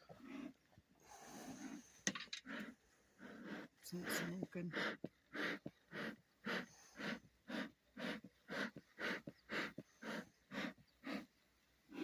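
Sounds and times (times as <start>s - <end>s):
bellows puffing air: 0.2s - 11.3s.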